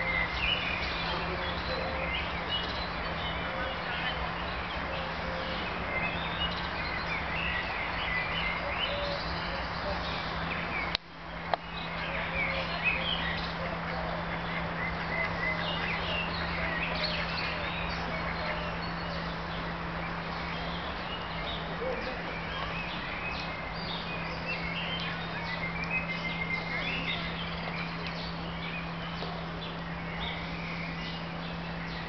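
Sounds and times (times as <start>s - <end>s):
small birds chirping and singing: 0.0s - 32.0s
steady low hum: 0.0s - 32.0s.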